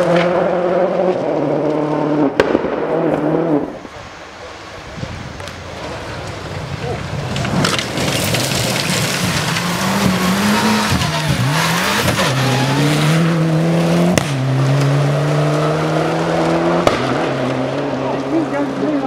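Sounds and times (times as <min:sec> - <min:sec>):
rally car engine revving: 0:00.0 - 0:03.9, 0:06.9 - 0:19.0
gravel spraying from tyres: 0:03.1 - 0:19.0.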